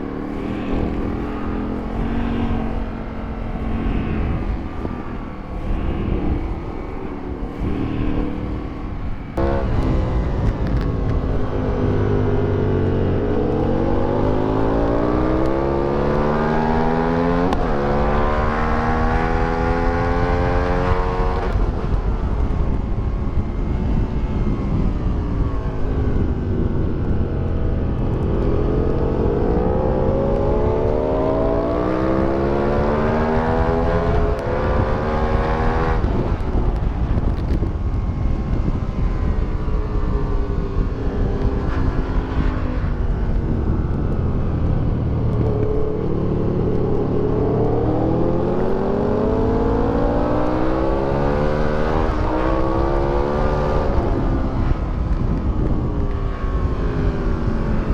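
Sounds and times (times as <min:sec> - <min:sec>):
motorcycle engine at full throttle: 0:00.0 - 0:57.9
wind rush: 0:00.0 - 0:57.9.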